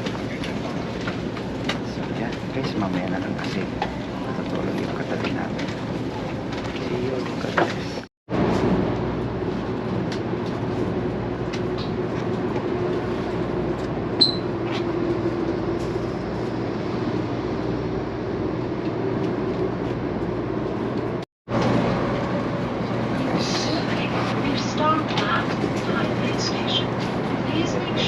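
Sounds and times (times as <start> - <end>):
train carriage rumble and hiss: 0.0 - 28.0.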